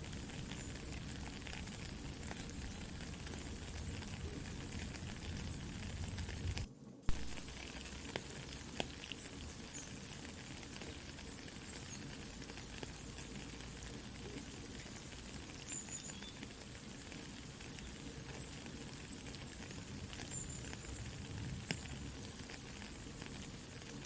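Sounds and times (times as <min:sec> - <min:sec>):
campfire crackling: 0:00.0 - 0:24.0
soft steady rain: 0:00.0 - 0:24.0.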